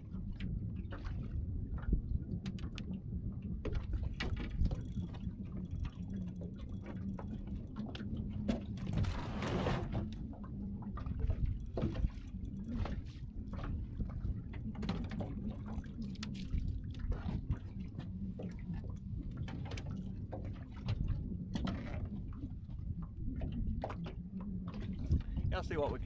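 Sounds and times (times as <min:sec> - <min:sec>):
steady low rumble: 0:00.0 - 0:26.0
waves lapping against boat hull: 0:00.0 - 0:26.0.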